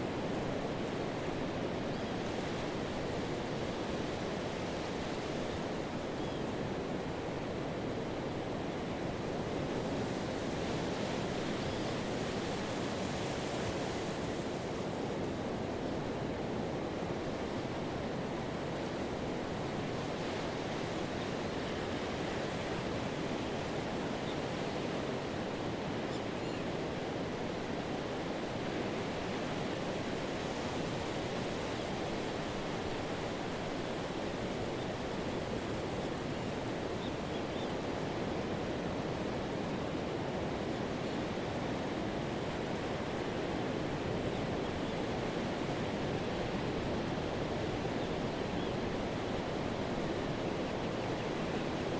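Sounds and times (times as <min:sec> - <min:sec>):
surf washing on sandy beach: 0:00.0 - 0:51.9.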